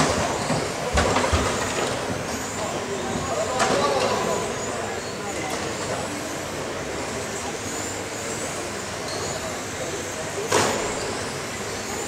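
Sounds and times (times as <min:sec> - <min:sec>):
hall background noise: 0:00.0 - 0:12.0.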